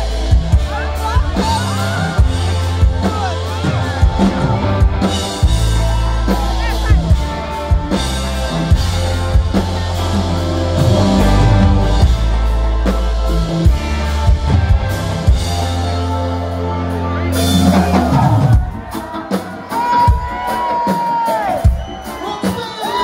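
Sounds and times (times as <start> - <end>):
heavy bass line: 0.0 - 18.9
drum kit: 0.0 - 23.0
electric guitar: 0.0 - 23.0
keyboards: 0.0 - 23.0.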